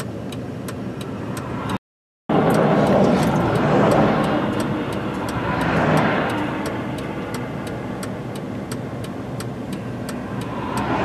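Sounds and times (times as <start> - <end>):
highway traffic passing: 0.0 - 11.0
vehicle passing by: 1.2 - 8.8, 9.7 - 11.0.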